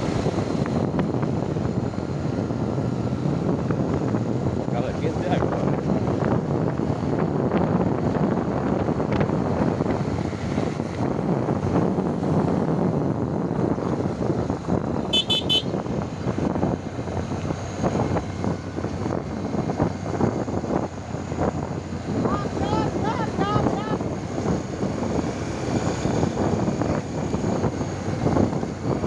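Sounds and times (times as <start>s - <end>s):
road rumble on dirt road: 0.0s - 29.0s
wind noise: 0.0s - 29.0s.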